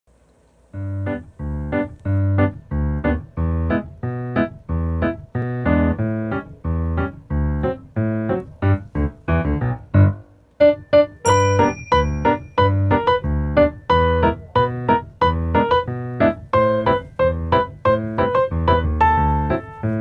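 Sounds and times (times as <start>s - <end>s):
bouncy keyboard music with beat: 0.8s - 20.0s.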